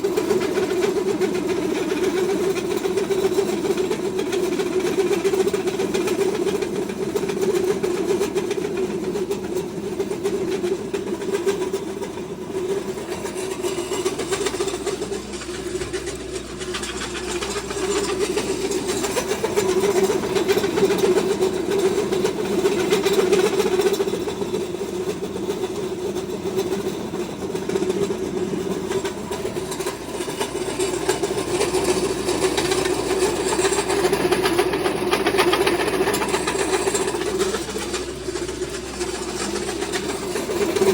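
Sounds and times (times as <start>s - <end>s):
feed mill mechanical drone: 0.0s - 40.9s.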